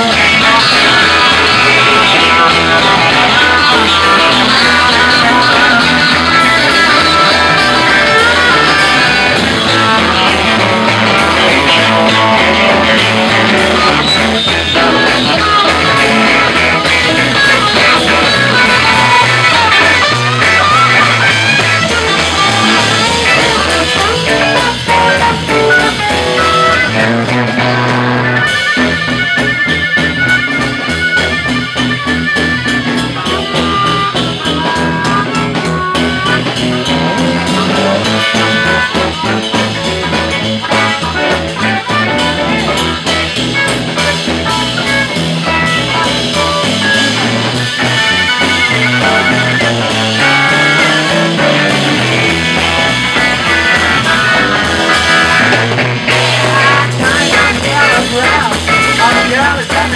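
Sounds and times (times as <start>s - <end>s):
amplified harmonica: 0.0s - 59.9s
rock band playing: 0.0s - 59.9s.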